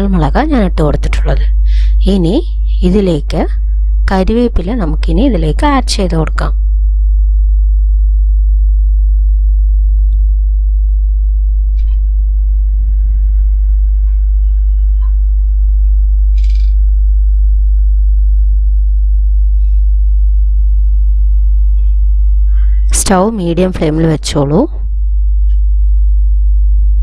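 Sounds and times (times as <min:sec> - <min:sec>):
mains hum: 0:00.0 - 0:27.0.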